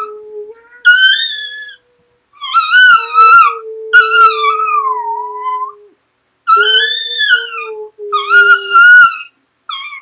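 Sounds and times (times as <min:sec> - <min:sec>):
dog howling: 0:00.0 - 0:10.0.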